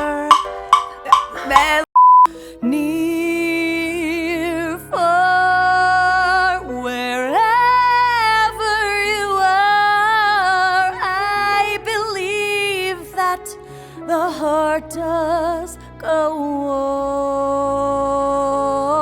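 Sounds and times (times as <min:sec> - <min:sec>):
woman singing a slow ballad: 0:00.0 - 0:19.0.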